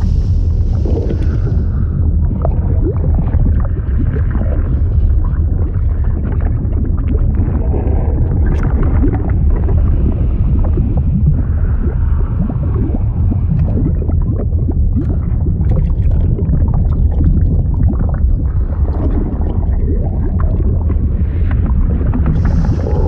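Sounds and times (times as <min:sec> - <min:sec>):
liquid churning and bubbling: 0:00.0 - 0:23.0.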